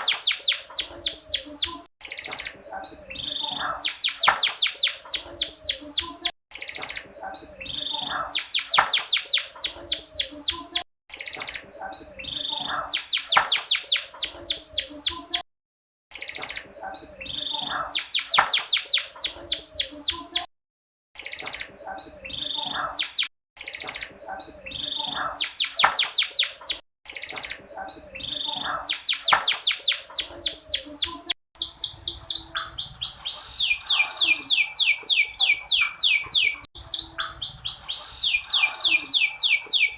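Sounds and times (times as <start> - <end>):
canary singing fast trills: 0.0 - 15.4, 16.1 - 20.5, 21.2 - 39.9.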